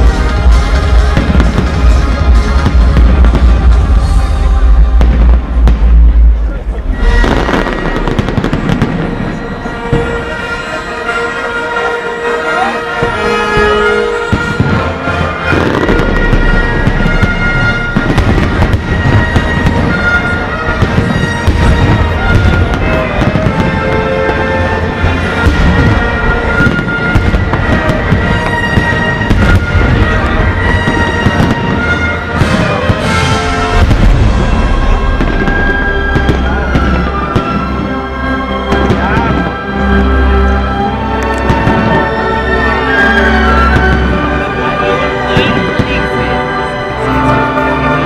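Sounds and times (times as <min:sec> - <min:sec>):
fireworks bangs and booms: 0:00.0 - 0:47.9
music playing: 0:00.0 - 0:48.0.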